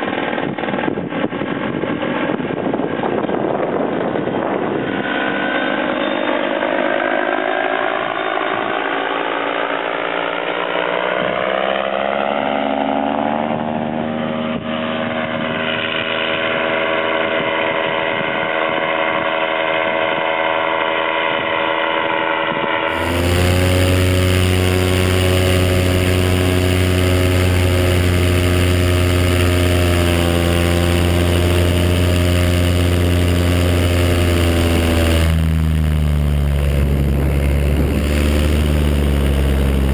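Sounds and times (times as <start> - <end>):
paramotor engine running: 3.7 - 39.9.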